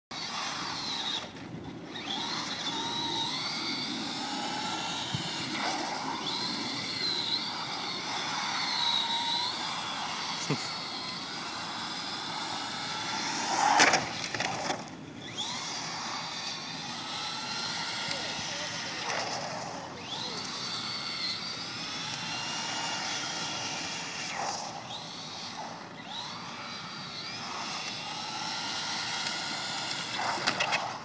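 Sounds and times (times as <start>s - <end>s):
toy car motor whining: 0.1s - 31.0s
wheels rolling on asphalt: 0.1s - 31.0s.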